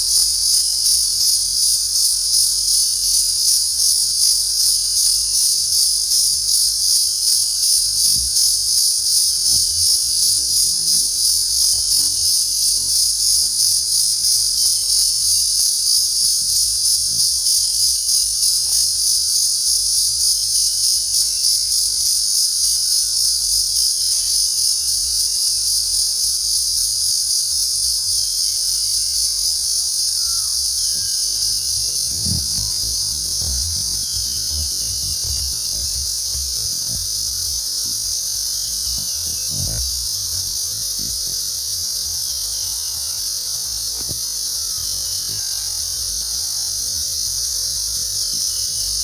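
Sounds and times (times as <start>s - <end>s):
insects buzzing shrilly: 0.0s - 49.0s.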